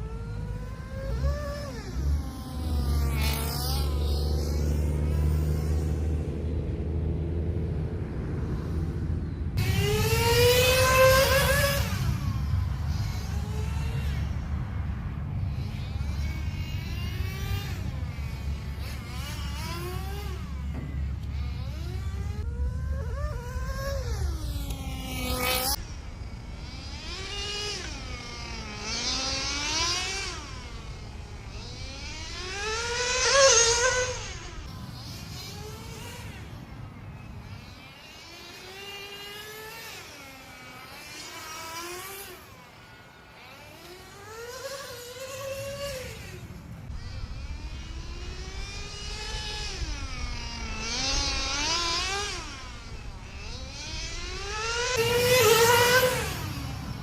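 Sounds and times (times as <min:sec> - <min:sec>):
rc car engine revving: 0:00.0 - 0:57.0.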